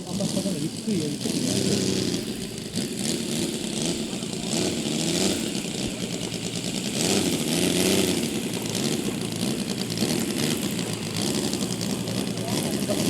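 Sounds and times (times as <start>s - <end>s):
model airplane engine passing: 0.0s - 13.0s.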